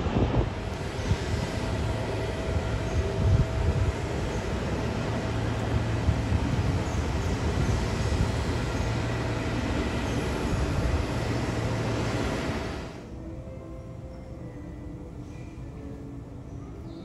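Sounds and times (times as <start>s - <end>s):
faint steady whine: 0.0s - 16.8s
low machinery hum: 0.0s - 17.0s.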